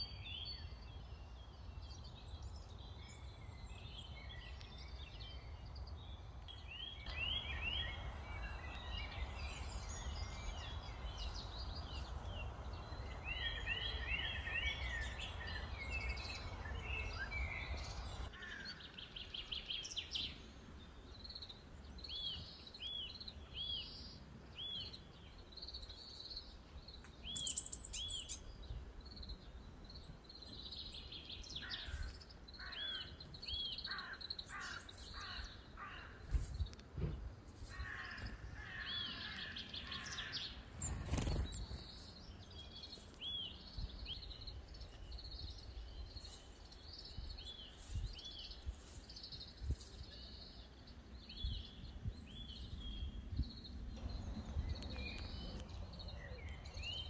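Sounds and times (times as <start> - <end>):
outdoor background noise: 0.0 - 57.0
small birds chirping: 0.0 - 57.0.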